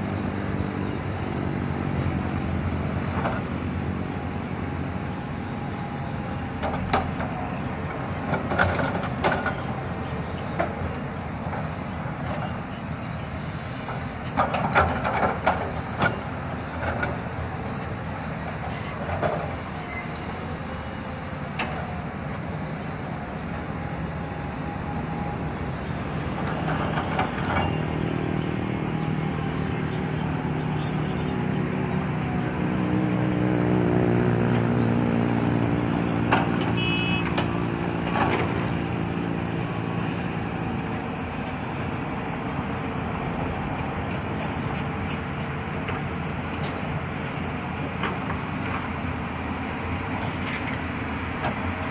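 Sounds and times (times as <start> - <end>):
heavy diesel engines running: 0.0 - 51.9.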